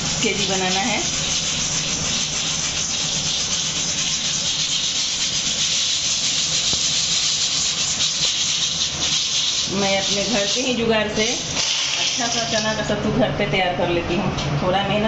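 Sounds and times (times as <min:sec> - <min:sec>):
sand and salt sifting through colander: 0:00.0 - 0:13.0.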